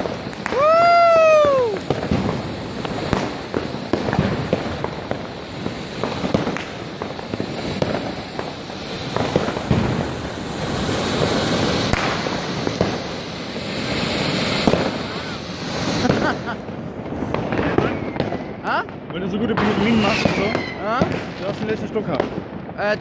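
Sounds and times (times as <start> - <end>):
fireworks and firecrackers banging: 0.0 - 23.0.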